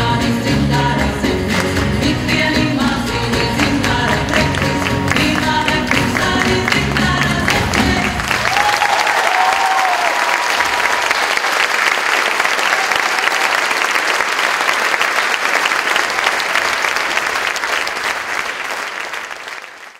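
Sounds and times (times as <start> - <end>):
audience applauding: 1.0 - 19.9.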